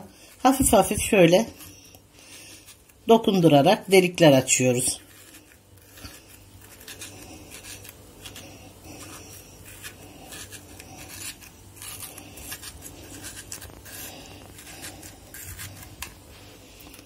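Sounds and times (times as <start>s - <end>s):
low steady hum: 0.0s - 17.0s
toothpick scraping onion: 0.0s - 17.0s.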